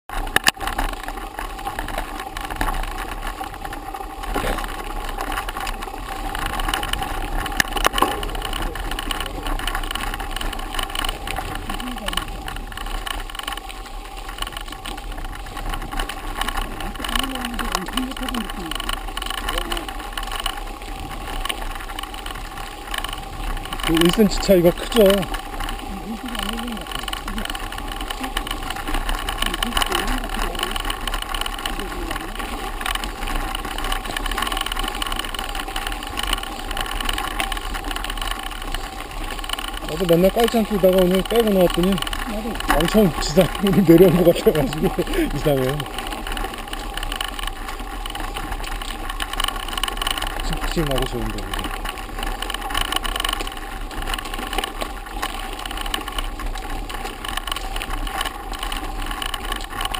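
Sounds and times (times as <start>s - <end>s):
bike rattling and knocking: 0.0s - 59.9s
wind and tyre rumble: 0.0s - 59.9s.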